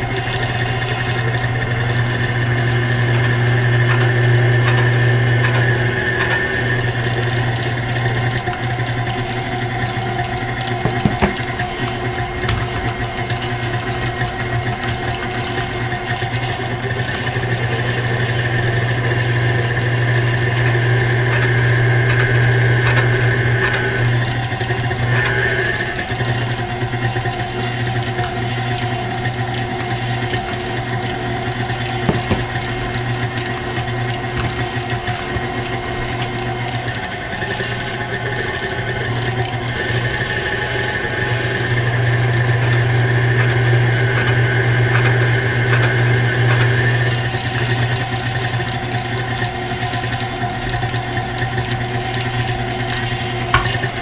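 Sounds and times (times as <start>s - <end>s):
stand mixer hum and whine: 0.0s - 54.0s.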